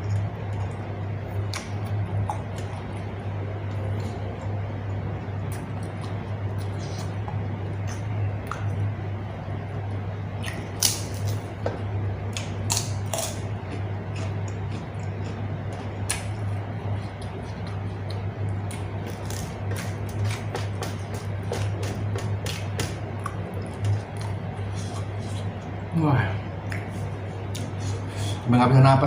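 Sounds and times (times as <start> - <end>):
chewing and mouth smacks: 0.0 - 8.8, 10.4 - 25.8, 26.6 - 28.0
steady low hum: 0.0 - 29.0.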